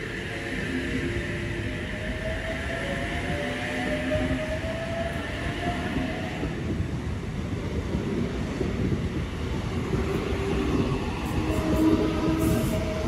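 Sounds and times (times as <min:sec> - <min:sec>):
faint train whine: 0:00.0 - 0:13.0
train wheels rumbling on rail: 0:00.0 - 0:13.0.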